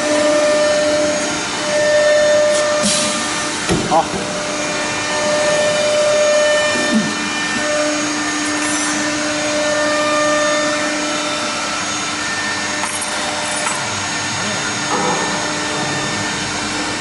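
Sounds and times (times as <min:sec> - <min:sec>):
router machine hissing and whining: 0:00.0 - 0:17.0.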